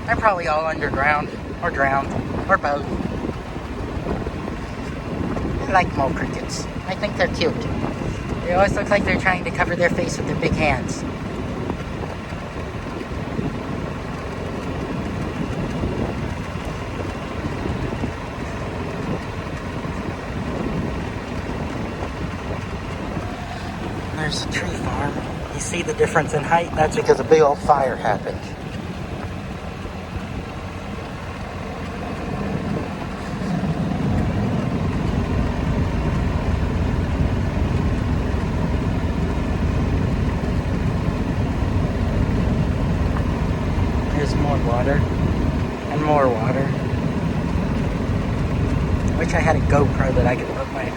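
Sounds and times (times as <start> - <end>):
small vehicle motor: 0.0 - 50.9.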